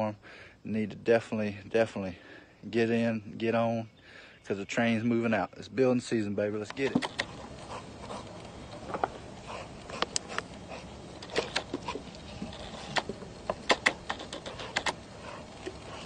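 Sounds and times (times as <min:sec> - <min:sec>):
low steady background: 0:00.0 - 0:16.0.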